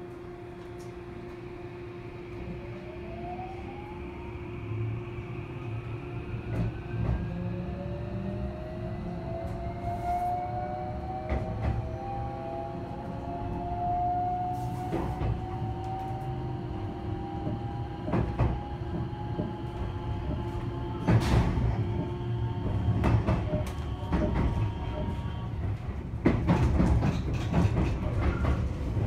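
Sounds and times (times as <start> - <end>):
train rumble: 0.0 - 29.0
train motor whine rising: 0.8 - 25.6.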